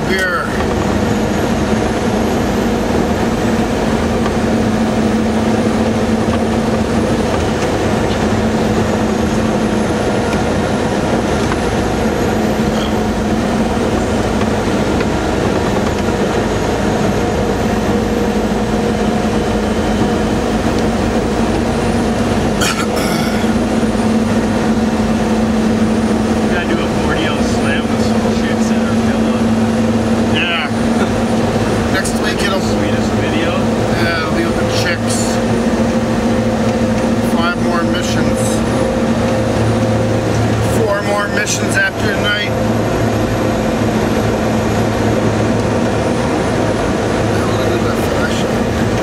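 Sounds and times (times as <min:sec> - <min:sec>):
road rumble: 0:00.0 - 0:49.0
vehicle engine drone: 0:00.0 - 0:49.0.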